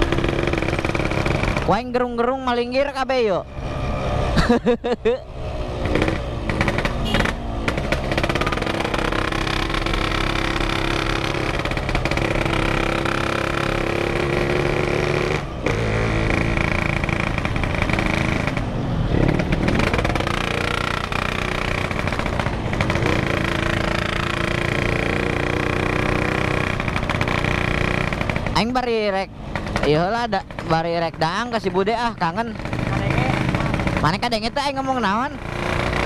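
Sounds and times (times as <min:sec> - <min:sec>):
two-stroke motorcycle engine: 0:00.0 - 0:36.0.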